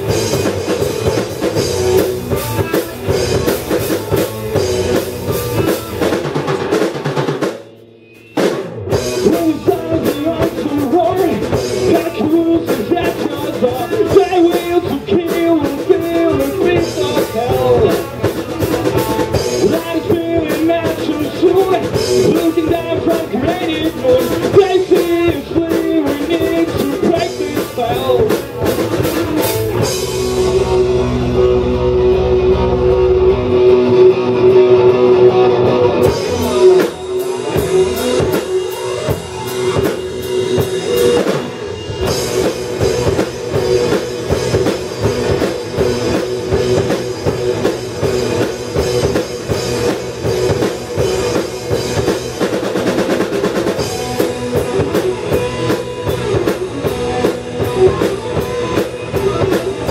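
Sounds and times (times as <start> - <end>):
distorted electric guitars: 0.0 - 59.9
drum kit: 0.0 - 59.9
electric bass: 0.0 - 59.9.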